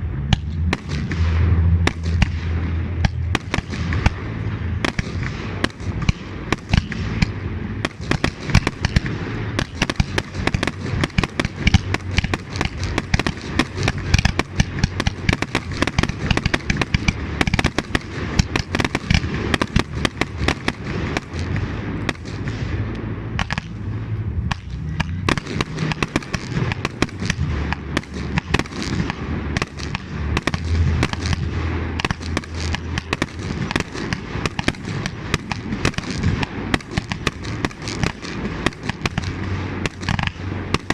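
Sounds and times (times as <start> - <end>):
fireworks bangs and crackles: 0.0 - 40.9
low rumble: 0.0 - 40.9.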